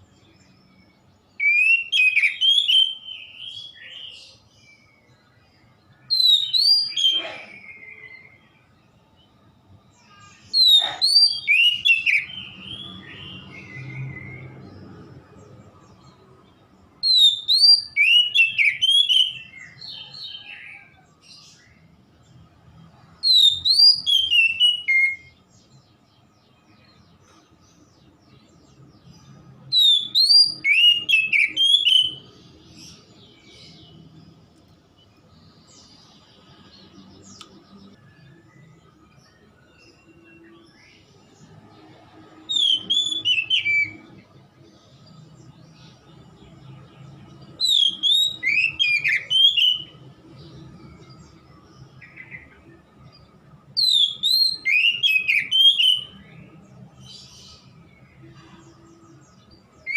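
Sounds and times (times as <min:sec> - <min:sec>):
bird singing whistled notes: 0:00.0 - 0:22.4, 0:23.0 - 0:27.2, 0:27.8 - 0:59.9.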